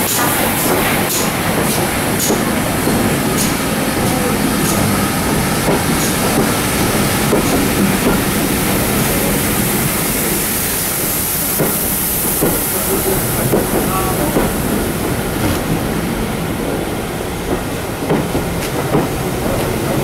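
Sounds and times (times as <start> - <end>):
steam train rumble and hiss: 0.0 - 20.0.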